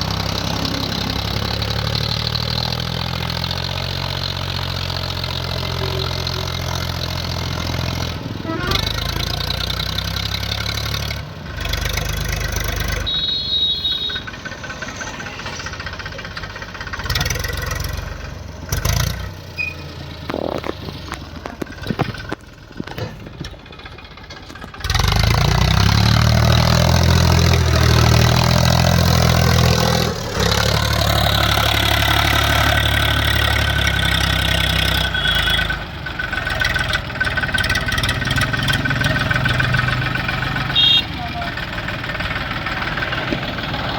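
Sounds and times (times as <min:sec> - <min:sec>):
tractor diesel engines revving: 0:00.0 - 0:43.9.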